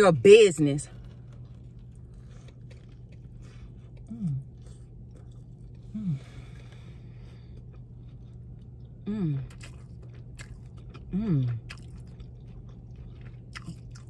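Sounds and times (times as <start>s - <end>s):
steady low hum: 0.0s - 14.0s
close-up chewing: 0.9s - 14.0s.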